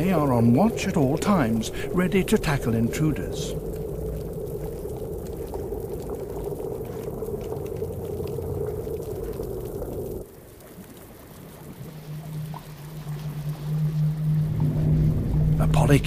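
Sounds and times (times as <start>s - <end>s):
quiet hiss: 0.0s - 16.0s
underwater bubbling: 0.0s - 16.0s.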